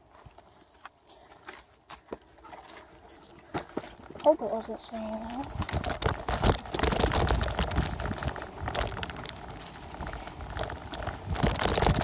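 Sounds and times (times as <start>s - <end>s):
bicycle rattling over rough ground: 0.0s - 12.0s.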